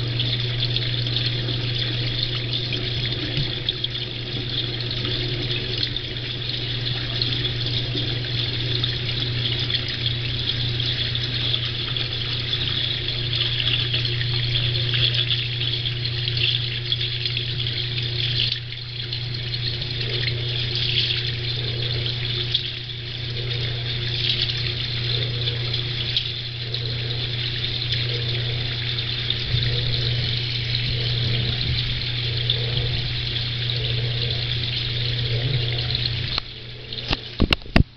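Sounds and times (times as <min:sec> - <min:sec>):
water rushing through a pipe: 0:00.0 - 0:37.9.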